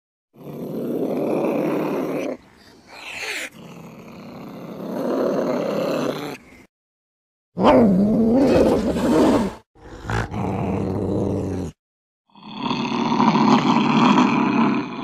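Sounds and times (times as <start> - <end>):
harsh animal growling: 0.4 - 6.7, 7.6 - 15.0.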